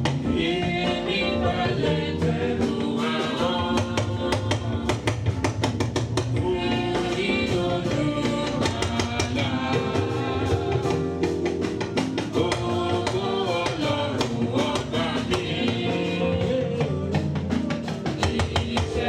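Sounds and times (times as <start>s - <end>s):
voices singing: 0.0s - 5.7s, 6.3s - 19.0s
drums and percussion beat: 0.0s - 19.0s.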